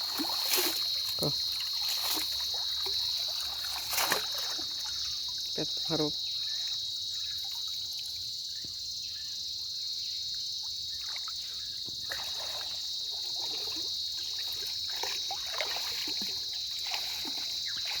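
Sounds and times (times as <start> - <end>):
water splashing and sloshing: 0.0 - 8.8, 10.6 - 18.0
crickets chirping: 0.0 - 18.0.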